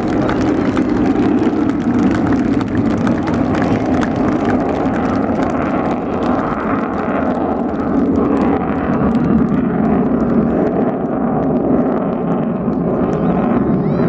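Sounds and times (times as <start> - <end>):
loud jet noise: 0.0 - 14.0.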